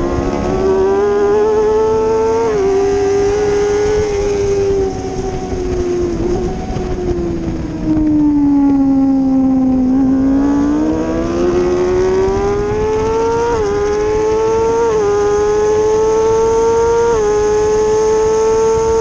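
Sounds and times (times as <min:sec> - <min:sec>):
motorcycle engine accelerating: 0:00.0 - 0:19.0
wind rushing: 0:00.0 - 0:19.0.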